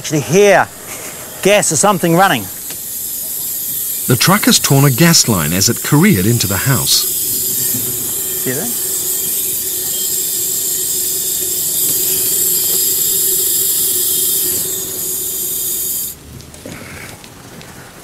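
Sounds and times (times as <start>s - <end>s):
gas hissing from a torn line: 0.3s - 16.4s.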